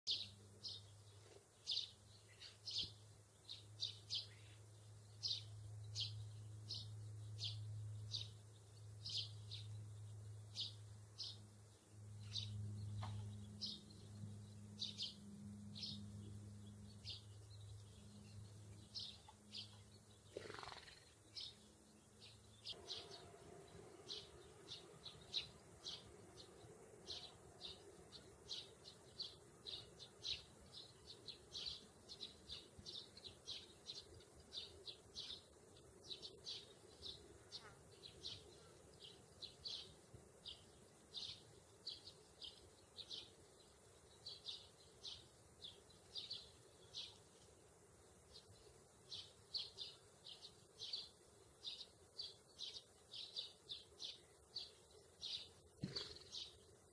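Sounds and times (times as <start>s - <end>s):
songbird chirping: 0.0s - 56.9s
faint low hum: 0.1s - 56.9s.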